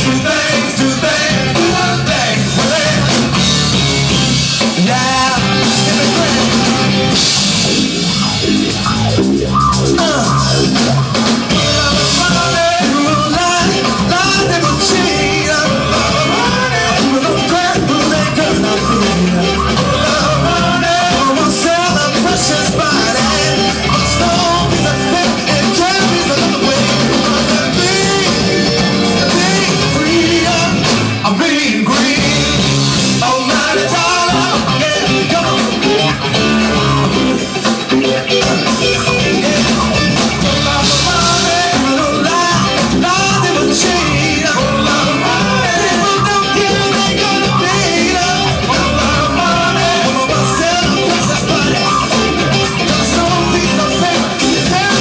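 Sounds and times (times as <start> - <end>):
man singing: 0.0 - 7.2, 9.8 - 55.0
funk band playing: 0.0 - 55.0.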